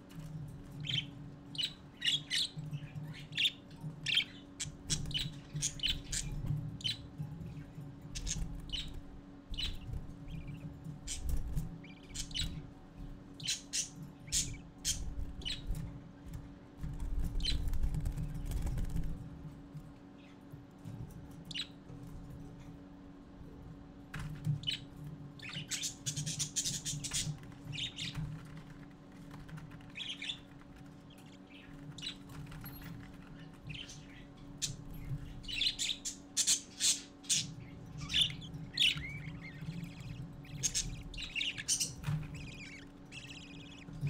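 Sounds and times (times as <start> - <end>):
low steady hum: 0.0 - 44.0
chicks cheeping: 0.2 - 19.2, 24.4 - 44.0.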